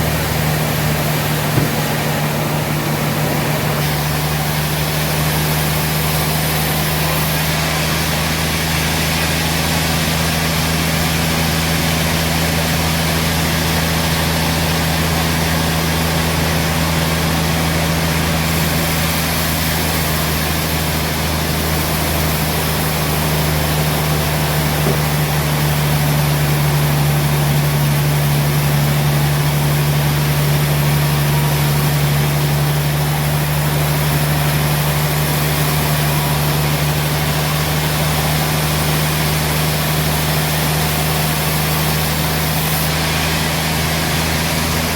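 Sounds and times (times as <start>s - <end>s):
sawmill engine humming: 0.0s - 44.9s.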